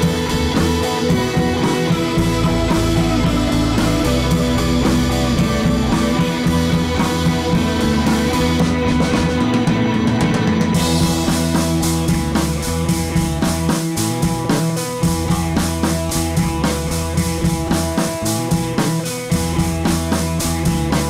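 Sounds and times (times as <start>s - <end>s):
drums keeping a steady beat: 0.0s - 21.0s
held instrumental tones: 0.0s - 21.0s.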